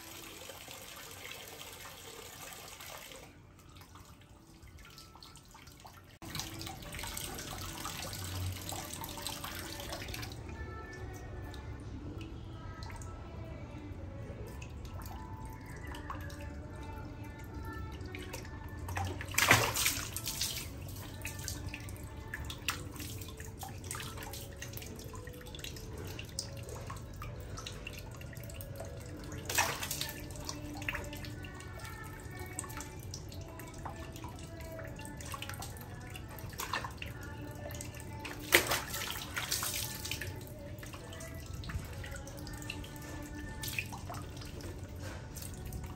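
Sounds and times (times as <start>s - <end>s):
water sloshing and splashing: 2.6s - 45.9s.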